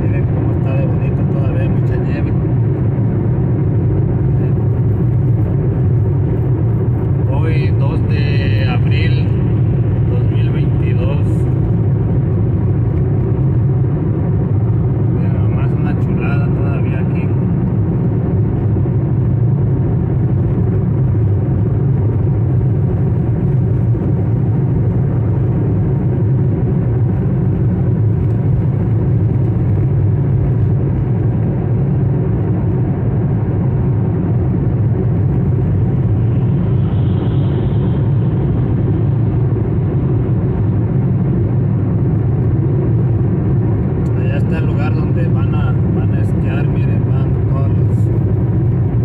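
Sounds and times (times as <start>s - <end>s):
car road noise and engine rumble: 0.0s - 49.0s.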